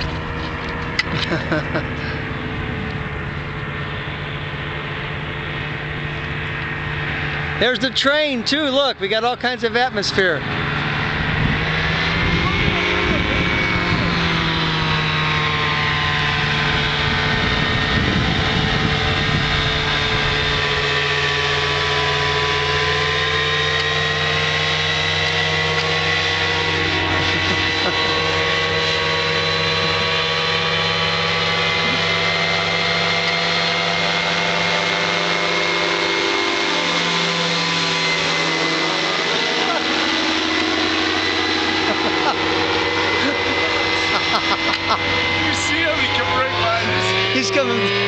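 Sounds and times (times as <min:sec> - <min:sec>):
engine running: 0:00.0 - 0:48.0
low rumbling noise: 0:00.0 - 0:48.0.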